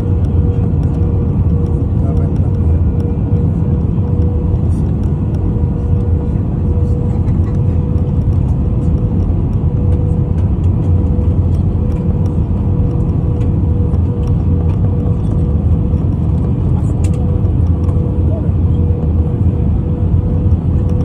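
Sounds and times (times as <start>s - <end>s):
jet engine and airflow rumble: 0.0s - 21.0s
mid-pitched whine: 0.0s - 21.0s.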